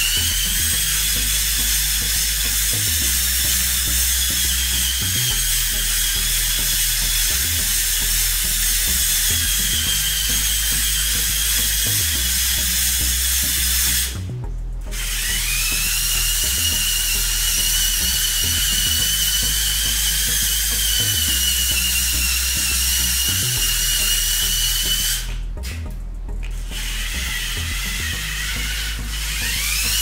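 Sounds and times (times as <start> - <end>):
toy truck motors whining: 0.0 - 25.8, 26.5 - 30.0.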